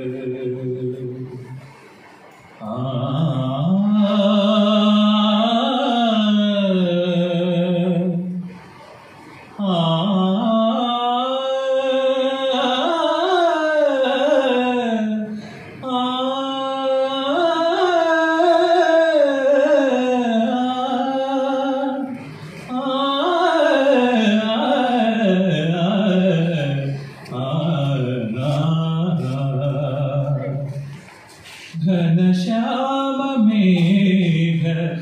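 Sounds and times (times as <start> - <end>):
young man singing into a microphone: 0.0 - 1.5, 2.6 - 8.5, 9.6 - 31.0, 31.6 - 35.0.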